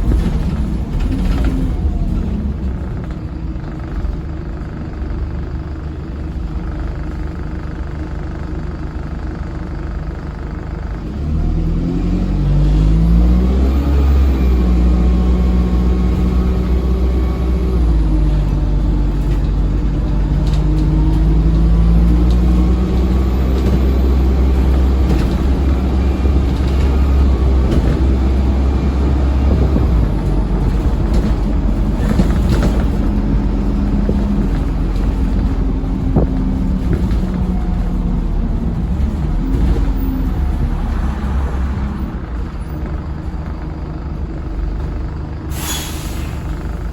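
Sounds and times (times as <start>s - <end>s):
bus engine running: 0.0s - 46.9s
bus whine pulling away: 0.0s - 46.9s.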